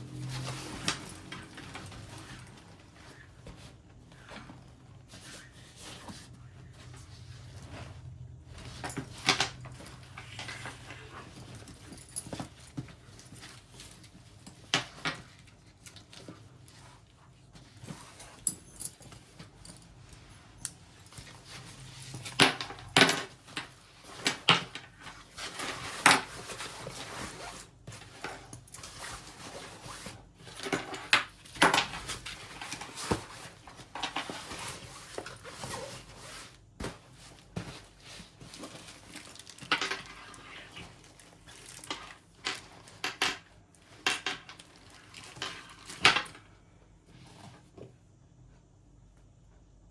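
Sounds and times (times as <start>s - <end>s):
backpack rustling: 0.1s - 20.4s, 21.0s - 43.0s.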